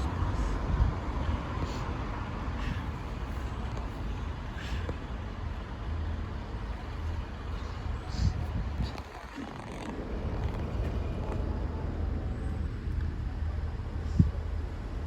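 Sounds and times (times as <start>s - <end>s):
traffic noise: 0.0s - 15.0s
vehicle engines idling: 0.0s - 15.0s.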